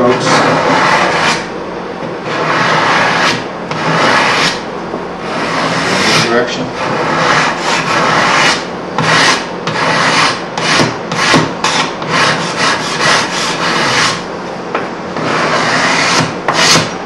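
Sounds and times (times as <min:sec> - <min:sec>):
hand scraper rasping on wood: 0:00.1 - 0:01.5, 0:02.2 - 0:04.6, 0:05.2 - 0:14.2, 0:15.2 - 0:16.9.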